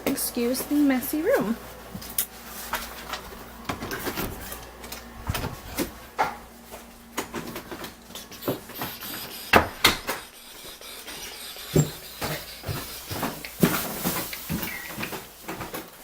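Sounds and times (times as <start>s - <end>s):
footsteps: 0.0s - 16.0s.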